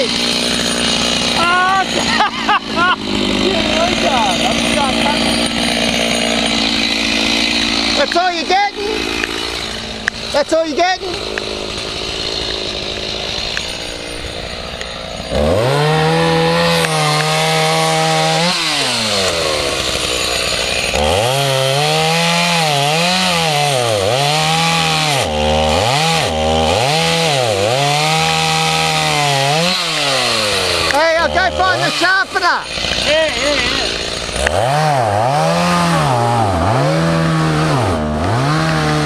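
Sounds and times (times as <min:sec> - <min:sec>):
chainsaw cutting wood: 0:00.0 - 0:39.0
chainsaw revving: 0:00.0 - 0:39.0.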